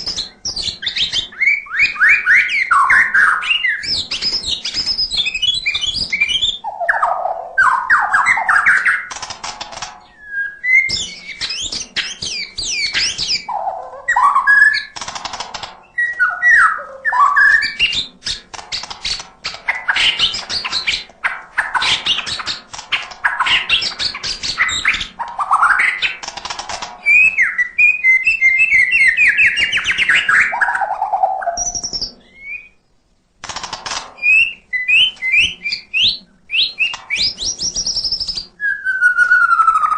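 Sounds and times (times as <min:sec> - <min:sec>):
songbird singing varied song: 0:00.0 - 0:09.2, 0:10.1 - 0:15.0, 0:15.8 - 0:26.2, 0:27.0 - 0:32.9, 0:34.2 - 0:39.9.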